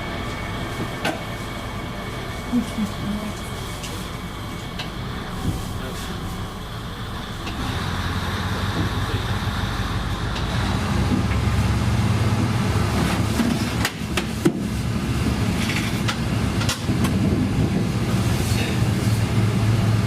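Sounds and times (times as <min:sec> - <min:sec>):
railcar diesel engine running: 0:00.0 - 0:20.0.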